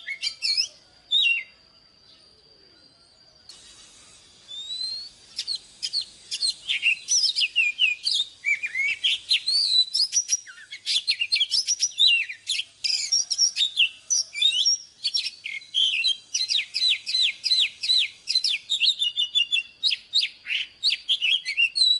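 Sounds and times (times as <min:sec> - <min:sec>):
bird singing whistled notes: 0:00.0 - 0:21.9.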